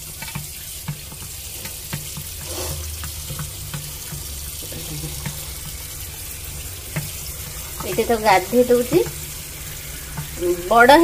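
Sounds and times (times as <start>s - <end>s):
small clicks and splashes: 0.0s - 11.0s
tap water running into a sink: 0.0s - 11.0s.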